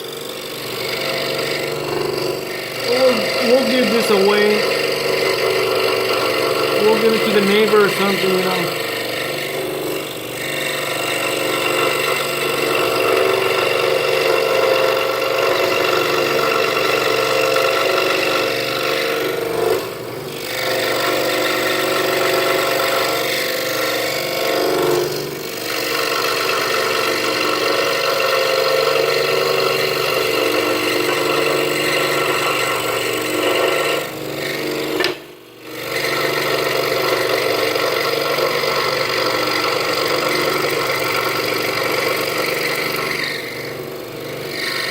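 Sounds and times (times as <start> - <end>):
scroll saw cutting wood: 0.0 - 44.9.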